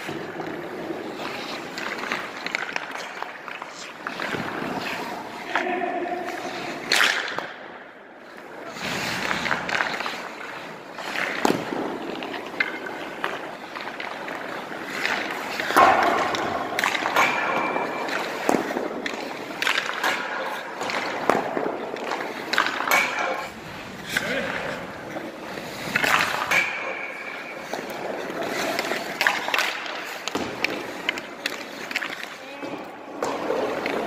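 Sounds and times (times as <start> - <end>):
pucks and sticks knocking: 0.0 - 7.7, 8.4 - 34.0
skate blades scraping ice: 0.0 - 34.0.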